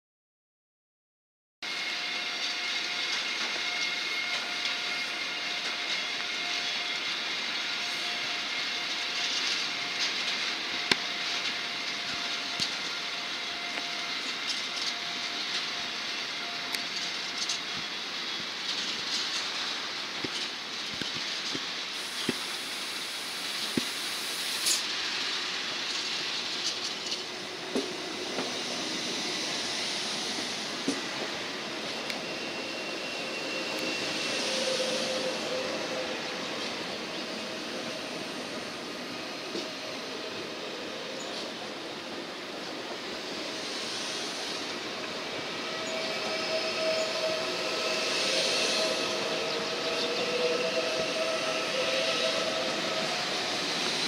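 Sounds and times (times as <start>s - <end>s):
electric train rolling past: 1.6s - 54.0s
wheels rumbling on rail: 1.7s - 54.0s.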